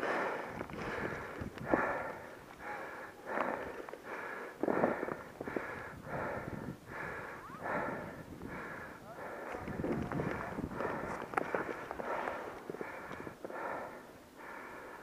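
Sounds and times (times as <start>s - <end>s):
person breathing hard: 0.0s - 15.0s.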